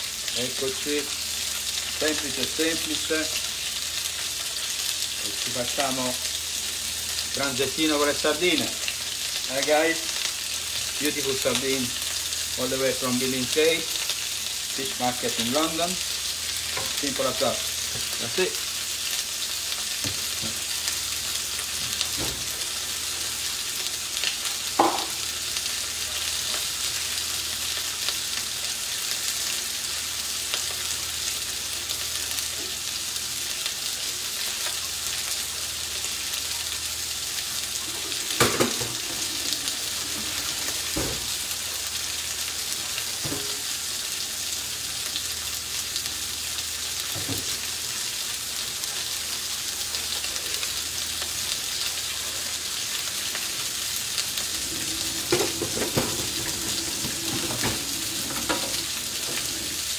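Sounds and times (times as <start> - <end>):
fish sizzling in a pan: 0.0 - 59.9.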